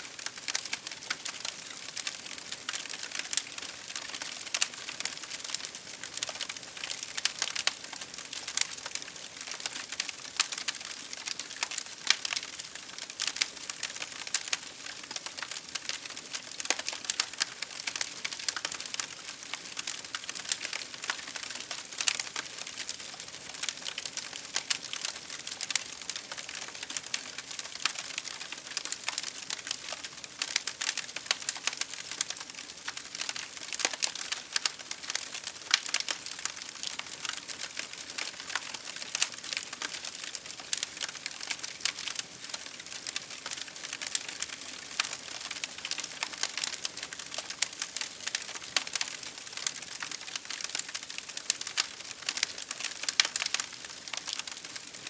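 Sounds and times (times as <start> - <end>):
fire crackling: 0.1 - 55.0.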